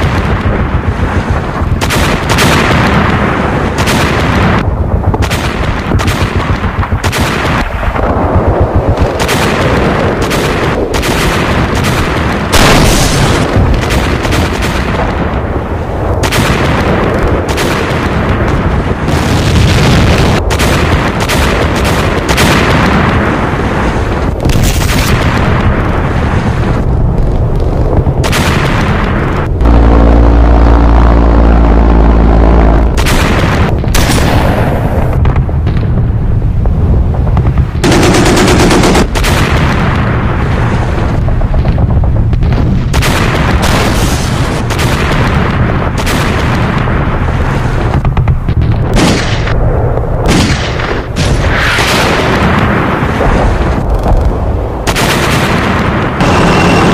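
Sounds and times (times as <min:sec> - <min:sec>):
rifle and machine-gun shots: 0:00.0 - 0:26.8, 0:28.0 - 0:36.0, 0:37.1 - 0:56.9
artillery booms: 0:00.0 - 0:56.9
heavy low rumble: 0:00.0 - 0:56.9.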